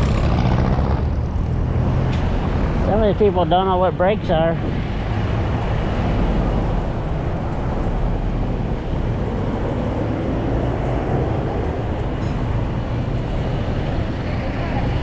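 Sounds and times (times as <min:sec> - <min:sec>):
low rumble of passing vehicles: 0:00.0 - 0:15.0.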